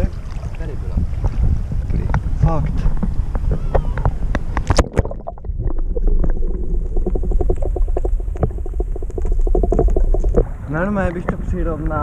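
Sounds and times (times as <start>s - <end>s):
low wind rumble: 0.0s - 12.0s
muffled water sloshing and splashing: 0.0s - 12.0s.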